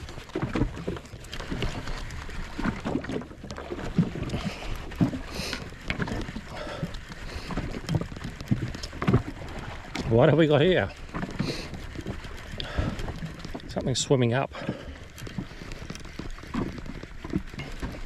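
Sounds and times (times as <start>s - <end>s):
water slapping against hull: 0.0s - 18.0s.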